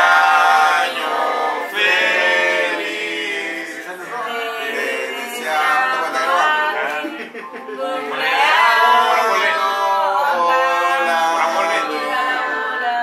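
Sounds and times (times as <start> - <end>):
group singing without instruments: 0.0 - 13.0.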